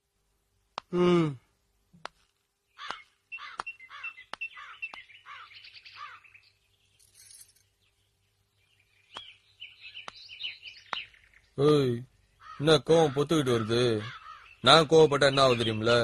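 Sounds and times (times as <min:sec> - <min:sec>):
small birds chirping: 0:01.6 - 0:16.0.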